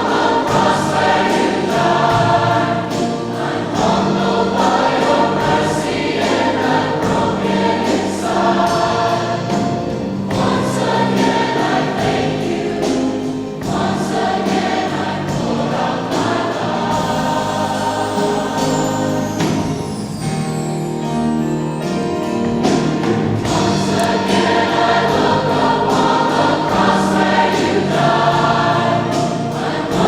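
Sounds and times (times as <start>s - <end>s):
choir singing with accompaniment: 0.0s - 30.0s.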